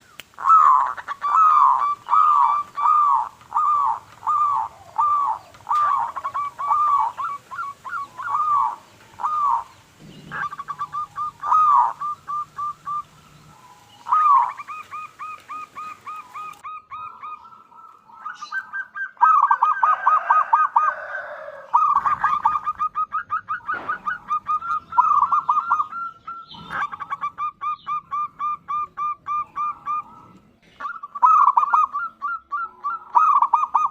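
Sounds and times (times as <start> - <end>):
dove cooing: 0.3 - 33.9.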